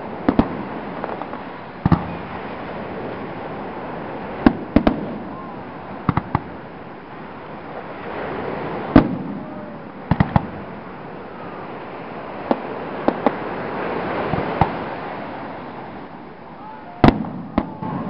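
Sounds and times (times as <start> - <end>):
fireworks bursting bangs: 0.0 - 16.1, 17.0 - 18.0.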